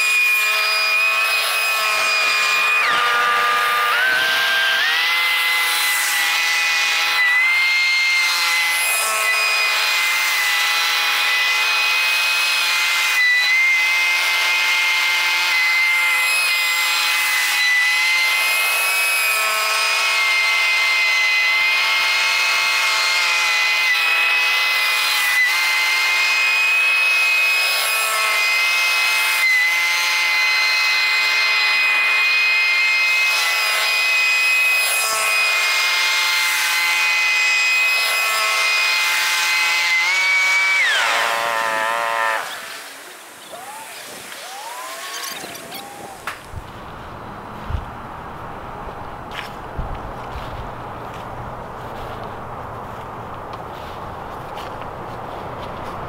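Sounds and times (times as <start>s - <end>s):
leaf blower whine: 0.0s - 56.0s.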